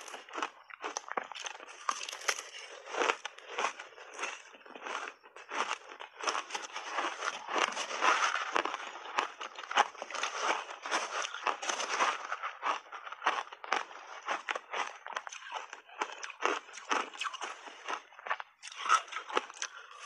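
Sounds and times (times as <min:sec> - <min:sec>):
crunching ice while chewing: 0:00.0 - 0:20.0.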